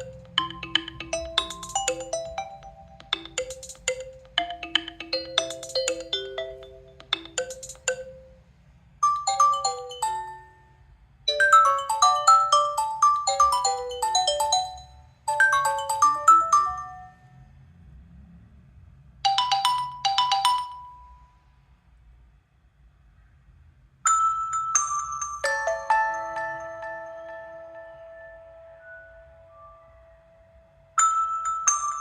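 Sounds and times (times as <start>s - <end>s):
phone ringtone melody: 0.0s - 8.4s, 9.0s - 10.7s, 11.3s - 17.3s, 19.3s - 21.2s, 24.1s - 32.0s.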